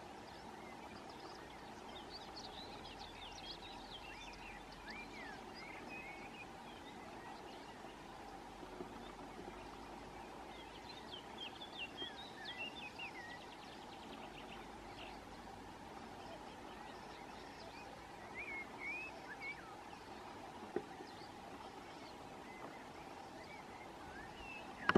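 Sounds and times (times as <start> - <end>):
faint background noise: 0.0 - 24.9
small birds singing: 0.0 - 24.9.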